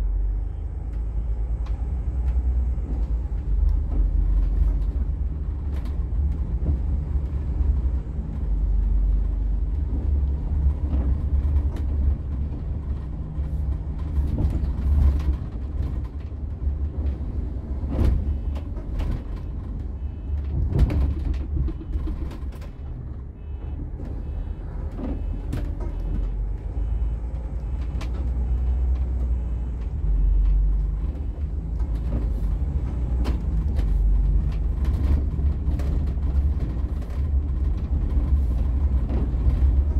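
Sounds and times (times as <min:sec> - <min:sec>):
bus engine drone: 0:00.0 - 0:39.9
road noise: 0:00.0 - 0:39.9
knocks and rattles: 0:02.3 - 0:26.9, 0:27.6 - 0:39.9.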